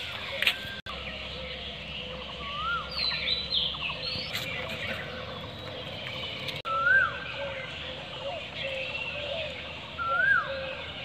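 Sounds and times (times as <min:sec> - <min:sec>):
bird chirps: 0:00.0 - 0:11.0
birds whistling: 0:00.0 - 0:11.0.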